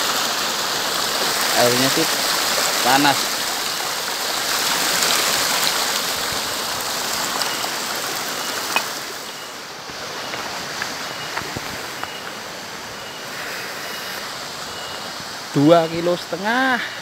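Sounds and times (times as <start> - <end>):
water pouring down rock: 0.0 - 15.7.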